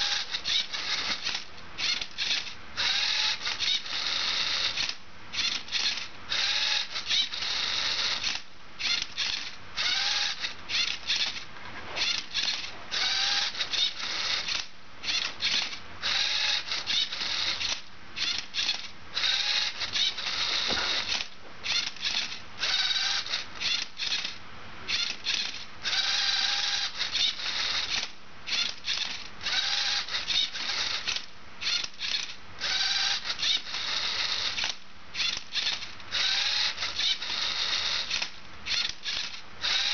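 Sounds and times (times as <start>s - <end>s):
robot motors whirring: 0.0s - 11.4s, 12.0s - 39.9s.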